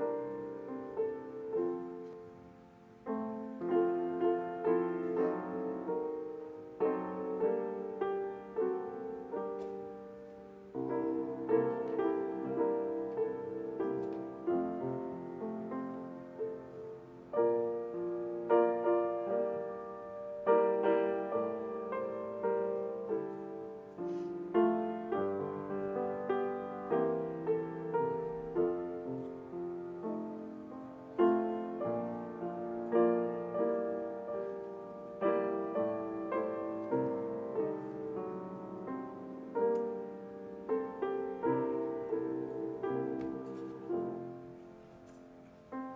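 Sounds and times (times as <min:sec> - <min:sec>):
solo piano piece: 0:00.0 - 0:45.9.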